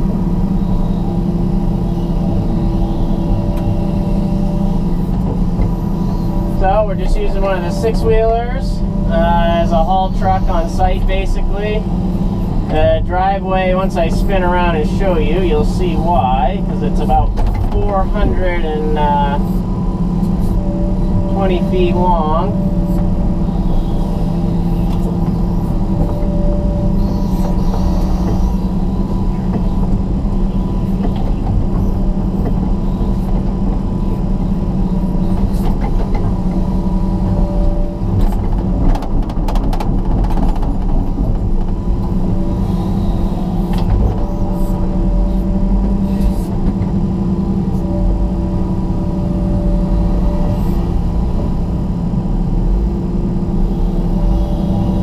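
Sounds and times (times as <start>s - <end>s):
excavator diesel engine and hydraulics: 0.0s - 55.0s
high hydraulic whine: 0.0s - 55.0s.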